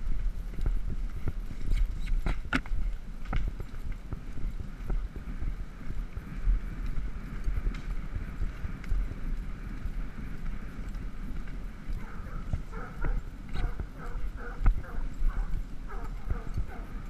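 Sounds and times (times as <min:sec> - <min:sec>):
horse hoofbeats thudding: 0:00.0 - 0:17.0
wind buffeting microphone: 0:00.0 - 0:17.0.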